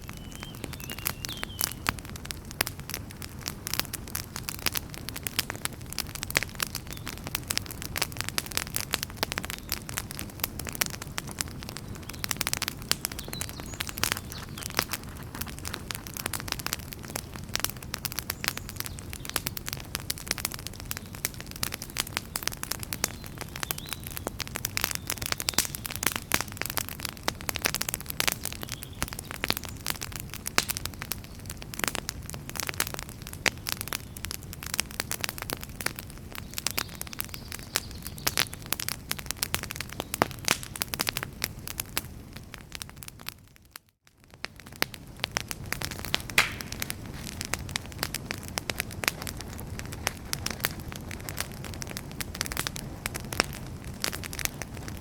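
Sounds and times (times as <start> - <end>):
burning logs crackling and popping: 0.0 - 55.0
fire flames rumbling: 0.0 - 55.0.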